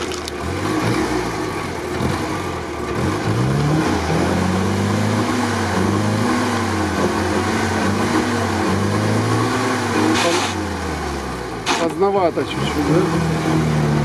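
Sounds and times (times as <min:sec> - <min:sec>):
jeep engine revving: 0:00.0 - 0:14.0.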